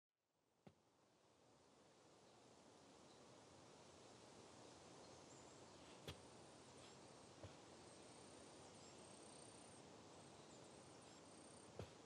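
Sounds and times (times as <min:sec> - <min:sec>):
faint background hiss: 0:00.4 - 0:12.0.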